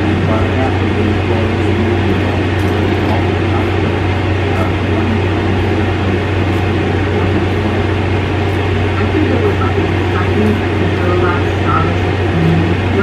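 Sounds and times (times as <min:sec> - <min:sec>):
appliance humming and rushing air: 0:00.0 - 0:13.0.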